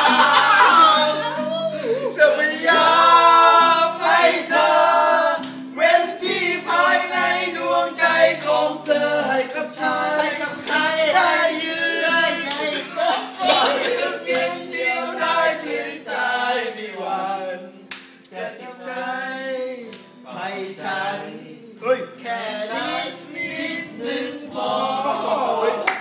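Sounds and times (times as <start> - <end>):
men singing together: 0.0 - 26.0.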